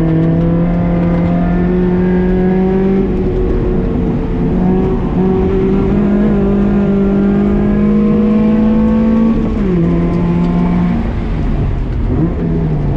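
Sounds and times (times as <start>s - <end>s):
car engine revving from inside cabin: 0.0s - 11.2s.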